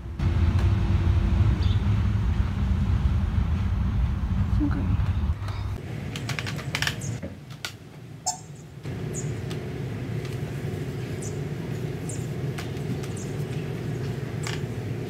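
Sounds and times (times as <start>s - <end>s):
steady low hum: 0.0s - 7.2s, 7.8s - 15.0s.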